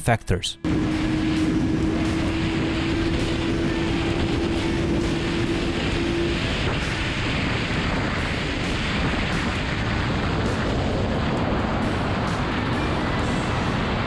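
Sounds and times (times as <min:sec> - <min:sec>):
wind rushing on microphone: 0:01.7 - 0:14.0.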